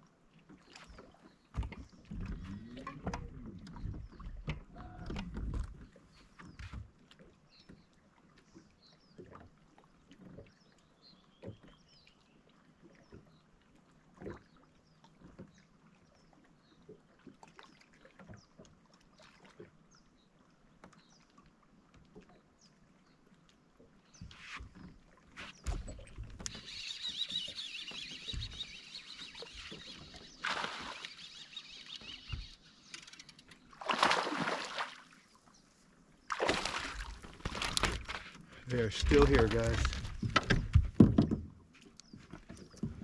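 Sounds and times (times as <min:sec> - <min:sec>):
water lapping: 0:00.0 - 0:43.0.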